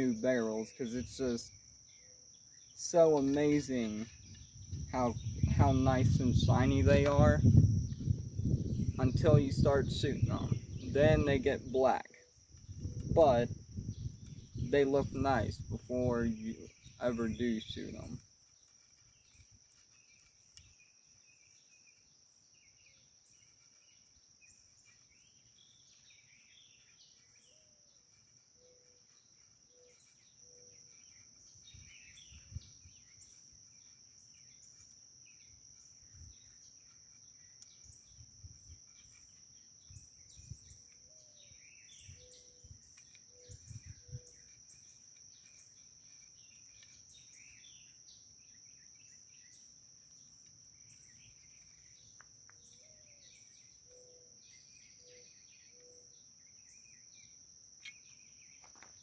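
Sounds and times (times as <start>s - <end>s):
bird chirps: 0.0s - 59.0s
crickets and insects chorus: 0.0s - 59.0s.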